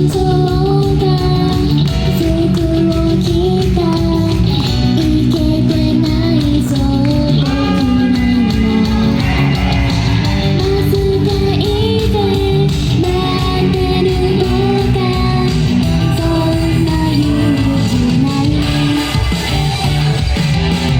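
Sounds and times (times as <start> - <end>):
woman singing: 0.0 - 9.5, 10.4 - 20.2
band playing with guitar and bass: 0.0 - 20.9.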